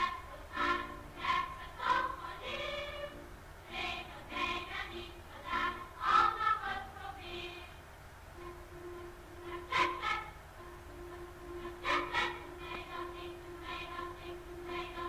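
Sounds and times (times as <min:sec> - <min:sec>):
choir singing: 0:00.0 - 0:07.8, 0:08.4 - 0:15.0.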